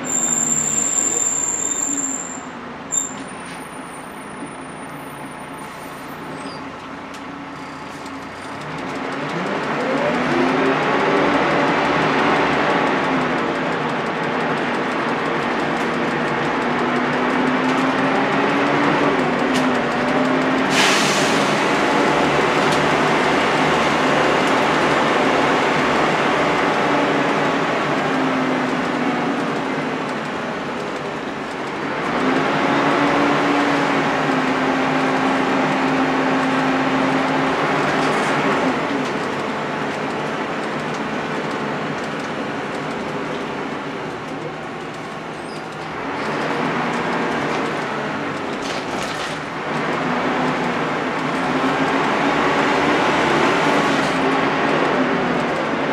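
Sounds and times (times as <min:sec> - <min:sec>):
bus diesel engine pulling: 0:00.0 - 0:55.9
road and body noise: 0:00.0 - 0:55.9.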